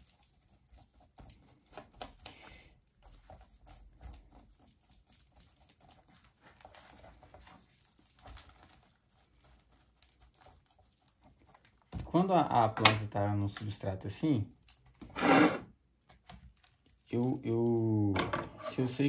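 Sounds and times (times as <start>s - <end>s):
potting soil rustling and crackling: 0.0s - 15.4s, 16.4s - 19.0s.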